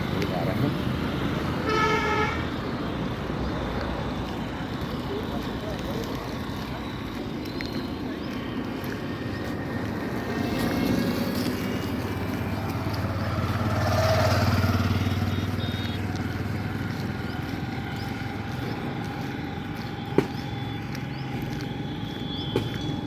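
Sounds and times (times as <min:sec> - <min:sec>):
road noise: 0:00.0 - 0:23.0
vehicle engine hum: 0:00.0 - 0:23.0.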